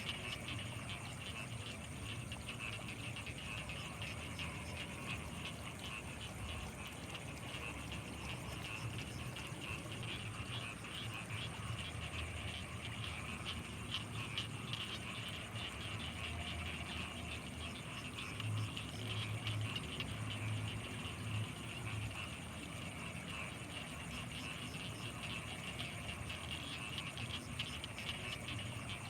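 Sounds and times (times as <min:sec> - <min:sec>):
deeper pulsing frog calls: 0:00.0 - 0:29.0
frogs rapid clicking calls: 0:00.0 - 0:29.0
high insect whine: 0:00.0 - 0:29.0.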